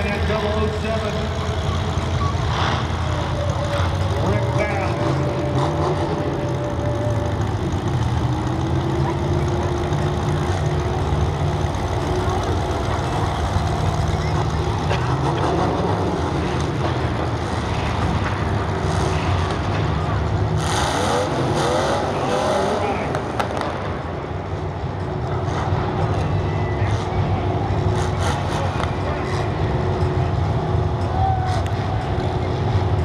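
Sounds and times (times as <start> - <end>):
car engines rumbling: 0.0 - 33.0
engines revving: 0.0 - 33.0.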